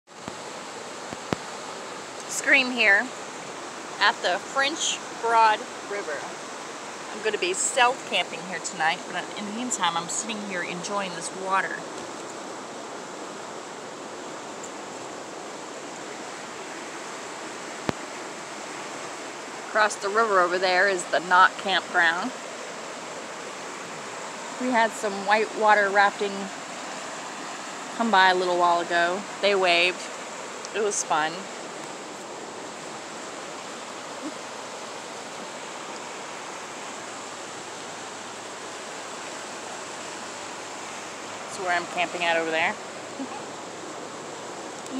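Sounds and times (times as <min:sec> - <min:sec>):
fast-flowing river rushing: 0:00.1 - 0:44.9.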